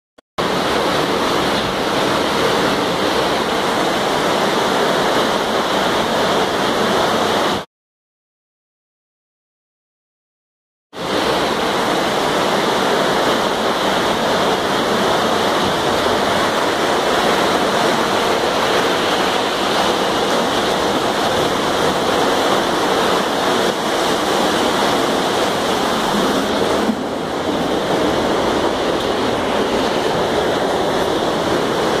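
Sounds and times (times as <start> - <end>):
floodwater rushing: 0.4 - 7.7, 11.0 - 32.0.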